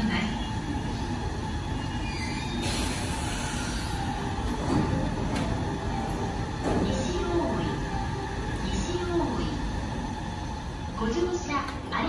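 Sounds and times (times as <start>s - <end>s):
train equipment rumble and hum: 0.0s - 12.0s.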